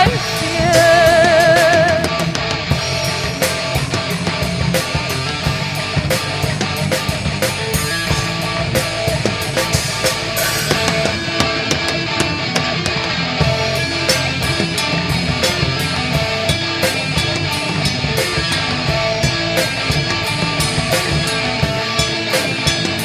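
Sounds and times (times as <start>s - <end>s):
bass guitar: 0.0s - 23.0s
drum kit beat: 0.0s - 23.0s
electric guitar: 0.0s - 23.0s.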